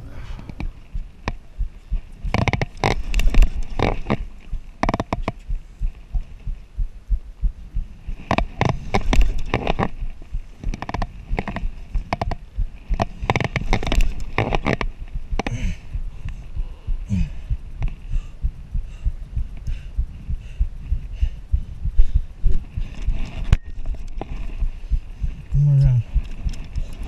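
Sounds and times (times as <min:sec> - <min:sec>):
low handling thumps: 0:00.0 - 0:27.0.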